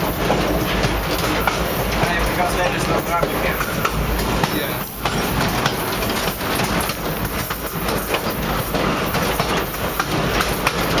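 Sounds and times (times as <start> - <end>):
train wheels rumbling on rail: 0.0 - 11.0
wheels clacking over rail joints: 0.0 - 11.0.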